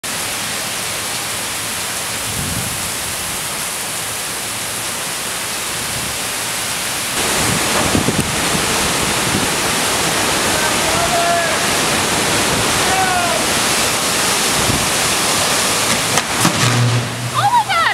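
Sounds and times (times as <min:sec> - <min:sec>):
heavy rain pouring: 0:00.0 - 0:17.9.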